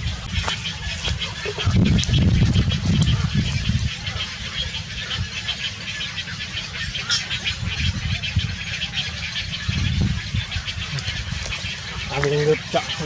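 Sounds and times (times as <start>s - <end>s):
baby birds cheeping: 0.0s - 13.0s.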